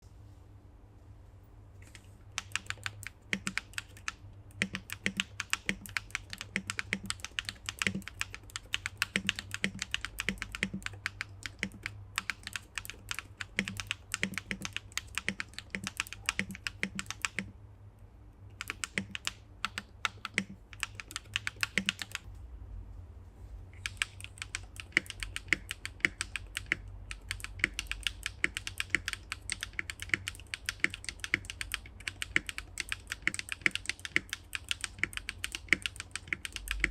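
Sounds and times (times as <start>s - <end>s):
mechanical keyboard typing: 1.8s - 17.5s, 18.5s - 22.3s, 23.8s - 36.9s.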